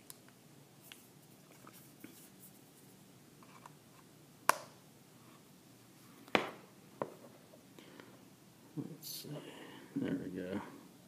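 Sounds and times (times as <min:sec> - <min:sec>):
low room hiss: 0:00.0 - 0:11.0.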